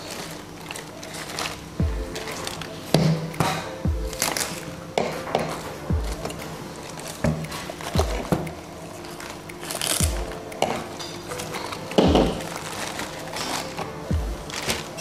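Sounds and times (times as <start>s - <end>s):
background music with low beat: 1.2s - 15.0s.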